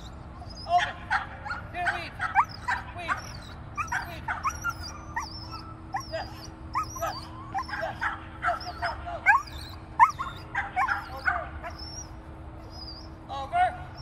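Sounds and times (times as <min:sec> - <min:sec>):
small dog yapping: 0:00.4 - 0:13.1.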